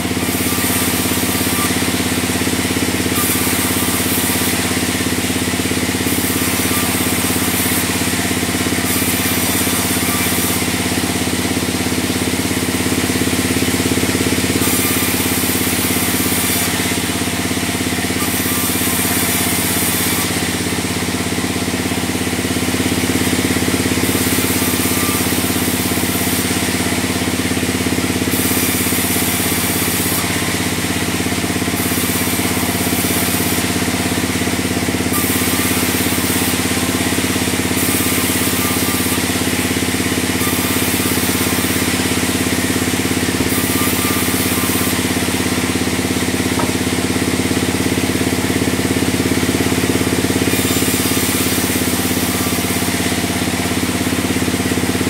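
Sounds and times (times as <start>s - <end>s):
band saw machinery humming: 0.0s - 55.0s.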